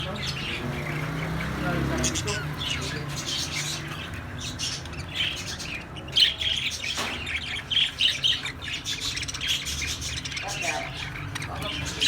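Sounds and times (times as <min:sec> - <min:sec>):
parrots chirping and squawking: 0:00.0 - 0:12.0.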